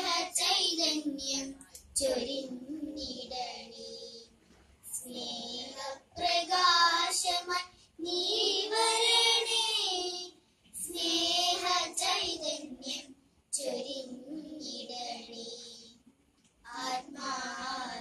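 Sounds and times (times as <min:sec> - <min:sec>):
child singing: 0:00.0 - 0:16.0, 0:16.7 - 0:18.0.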